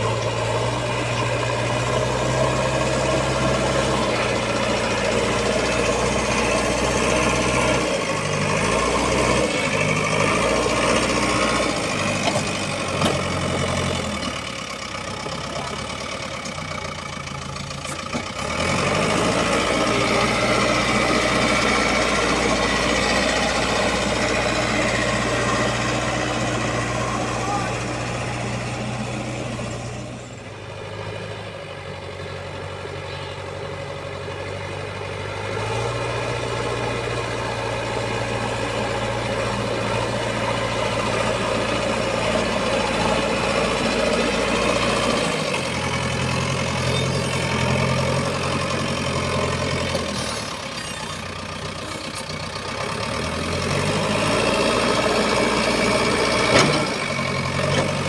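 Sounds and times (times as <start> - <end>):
heavy diesel engine working: 0.0 - 58.0.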